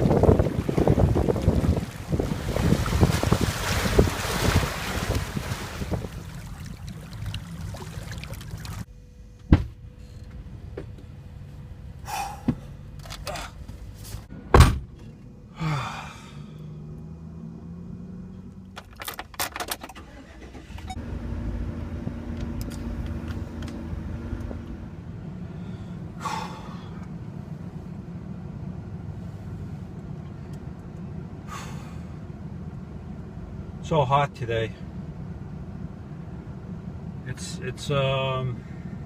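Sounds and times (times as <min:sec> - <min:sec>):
van engine starting and idling: 0:00.0 - 0:39.0.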